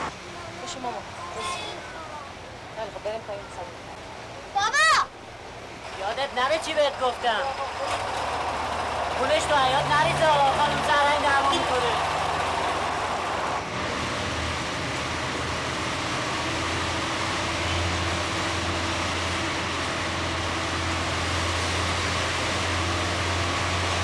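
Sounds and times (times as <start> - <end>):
bus engine drone: 0.0 - 24.0
road and rattle noise: 0.0 - 24.0.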